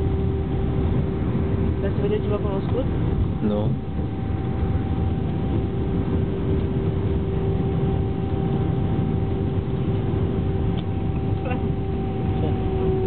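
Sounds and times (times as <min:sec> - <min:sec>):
airplane cabin engine rumble: 0:00.0 - 0:13.0
constant hum: 0:00.0 - 0:13.0.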